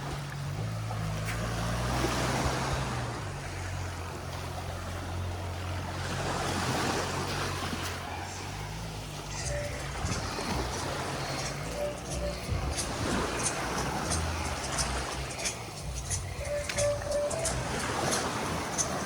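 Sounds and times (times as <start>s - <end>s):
sea waves washing onto beach: 0.0s - 19.0s.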